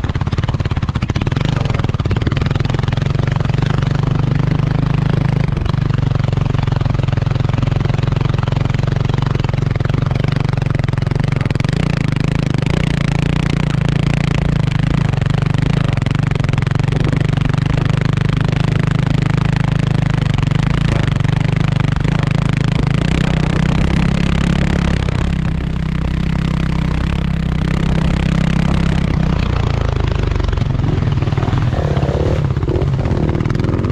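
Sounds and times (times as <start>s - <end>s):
constant rushing noise: 0.0s - 33.9s
motorcycle engine running: 0.0s - 33.9s.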